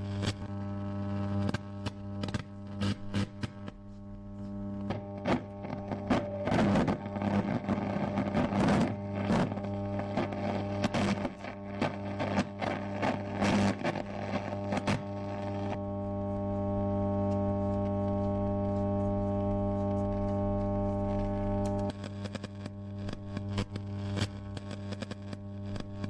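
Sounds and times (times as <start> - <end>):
electrical hum: 0.0 - 26.0
radio static crackling: 0.0 - 26.0.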